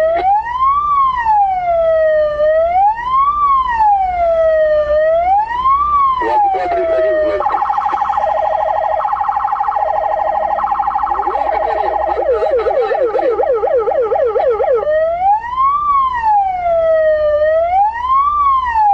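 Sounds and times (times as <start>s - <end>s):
police siren wailing: 0.0s - 18.9s.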